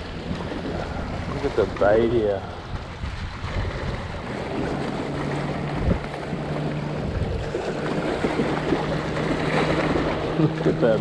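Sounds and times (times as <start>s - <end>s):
low engine hum: 0.0s - 11.0s
wind buffeting microphone: 0.0s - 11.0s.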